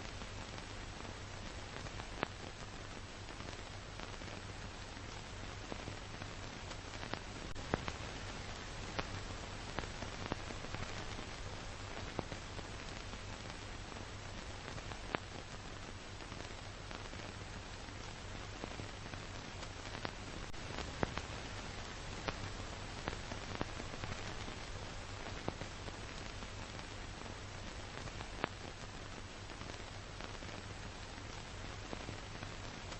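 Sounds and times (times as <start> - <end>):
film soundtrack surface noise: 0.0 - 32.9.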